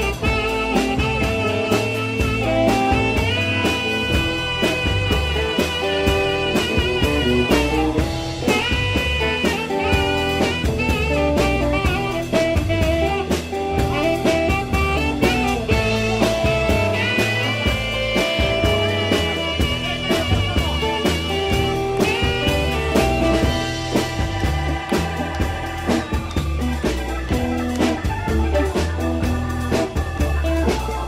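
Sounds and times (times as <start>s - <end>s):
drum kit: 0.0s - 31.0s
electric bass: 0.0s - 31.0s
guitar: 0.0s - 31.0s
keyboard: 0.0s - 31.0s
saxophone solo: 0.0s - 31.0s.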